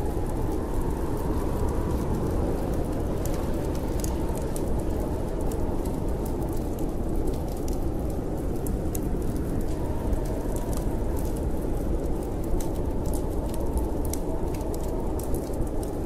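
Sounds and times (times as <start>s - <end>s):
wind blowing: 0.0s - 16.0s
wood fire crackling: 0.0s - 16.0s.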